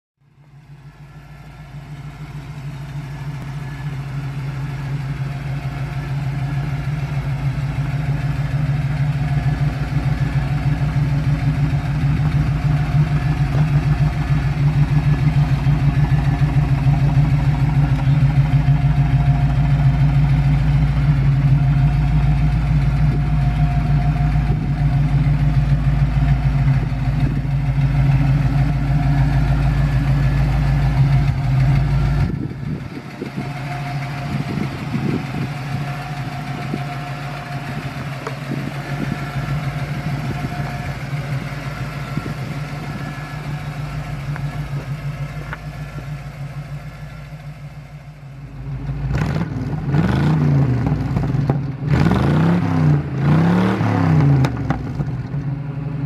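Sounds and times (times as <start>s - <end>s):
engine idling: 0.2s - 56.0s.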